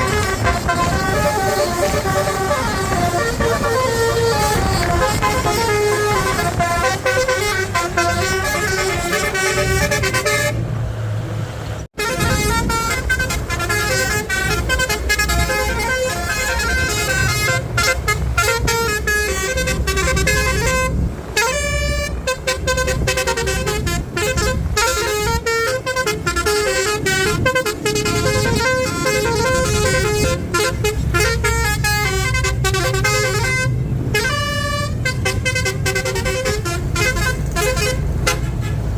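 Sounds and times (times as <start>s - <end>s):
musical air horn playing a tune: 0.0s - 10.6s, 12.0s - 38.8s
bus engine rumble: 0.0s - 38.9s.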